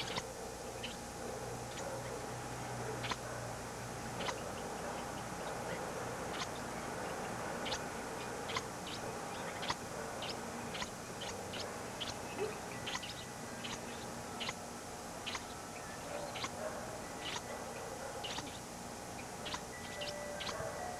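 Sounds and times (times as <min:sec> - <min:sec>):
small birds chirping: 0:00.0 - 0:20.9
tape hiss: 0:00.0 - 0:20.9.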